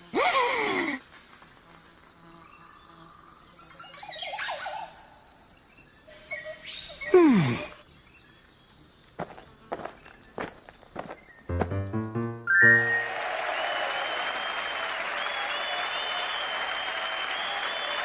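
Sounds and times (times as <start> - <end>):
high cricket-like chirring: 0.0 - 11.6, 13.6 - 18.0.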